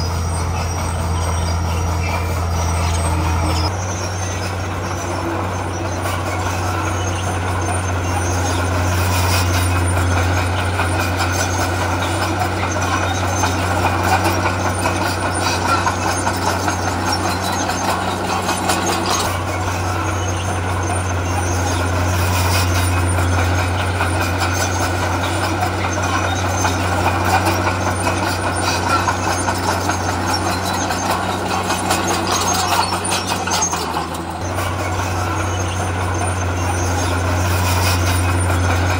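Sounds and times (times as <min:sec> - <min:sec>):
heavy diesel machinery engine drone: 0:00.0 - 0:38.9.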